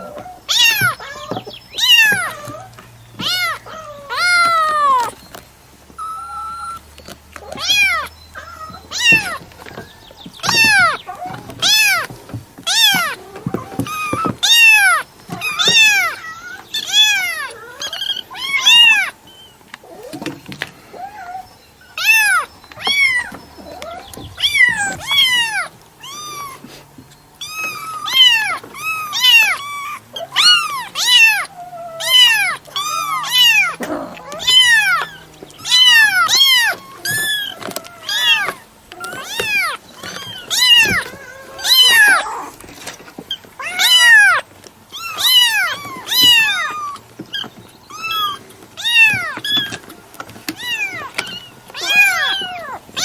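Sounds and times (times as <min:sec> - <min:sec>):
cat meowing: 0:00.0 - 0:05.2, 0:07.4 - 0:09.4, 0:10.4 - 0:12.1, 0:12.7 - 0:19.2, 0:22.0 - 0:26.7, 0:27.4 - 0:42.5, 0:43.6 - 0:49.8, 0:50.5 - 0:53.0.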